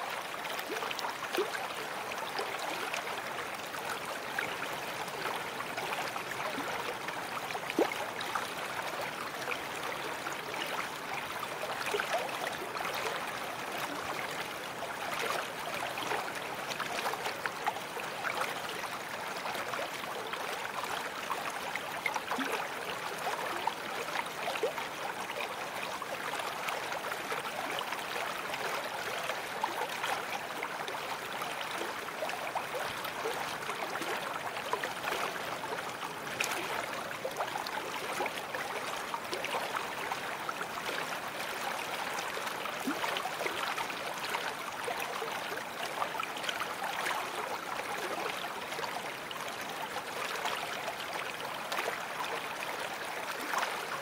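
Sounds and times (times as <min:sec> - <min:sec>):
brook water over stones: 0:00.0 - 0:54.0.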